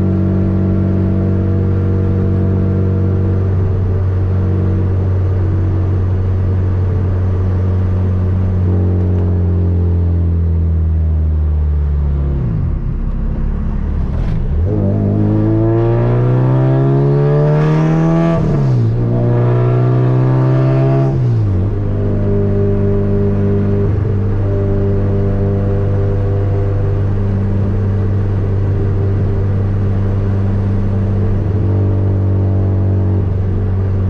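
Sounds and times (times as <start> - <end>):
car engine revving from inside cabin: 0.0 - 10.2, 12.0 - 34.0.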